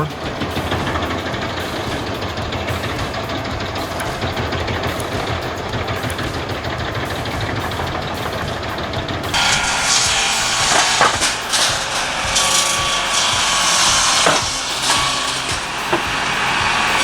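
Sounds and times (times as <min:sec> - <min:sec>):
hissing machine noise: 0:00.0 - 0:17.0
wood chipper engine running: 0:00.0 - 0:17.0.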